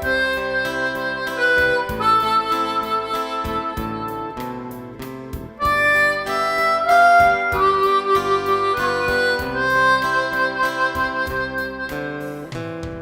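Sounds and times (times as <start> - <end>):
acoustic guitar accompaniment: 0.0 - 13.0
harmonica slow melody: 0.0 - 13.0.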